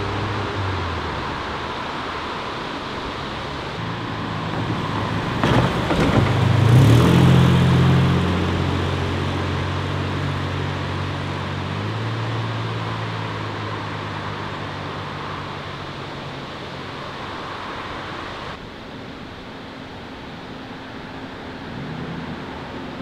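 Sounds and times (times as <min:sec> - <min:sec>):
car engine accelerating past: 0:00.0 - 0:18.6.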